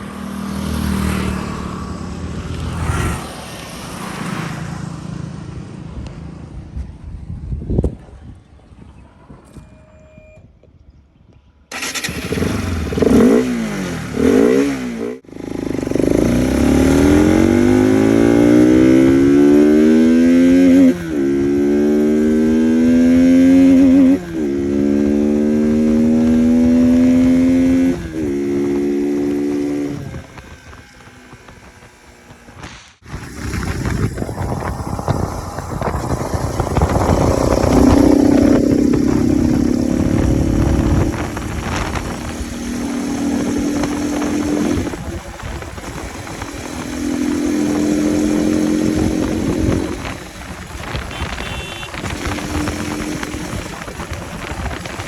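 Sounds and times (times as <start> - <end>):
motorcycle engine revving: 0.0 - 6.8, 11.7 - 55.0.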